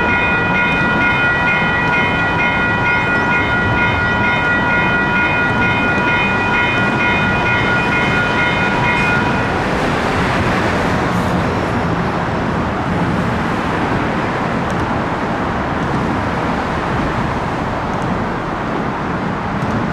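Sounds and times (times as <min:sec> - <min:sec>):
crossing bells ringing: 0:00.0 - 0:19.7
freight train rumbling: 0:00.0 - 0:19.9.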